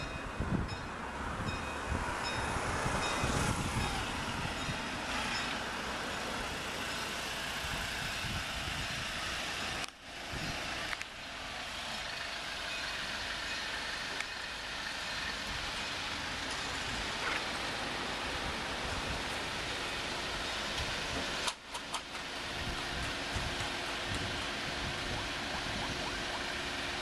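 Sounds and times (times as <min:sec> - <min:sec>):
engine and traffic noise: 0:00.0 - 0:27.0.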